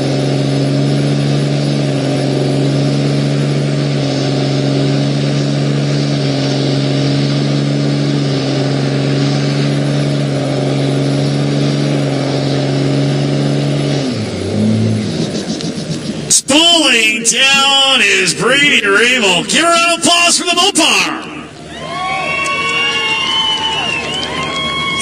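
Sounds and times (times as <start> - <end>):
tires spinning: 0.0 - 20.0, 20.8 - 25.0
diesel engine revving high: 0.0 - 25.0.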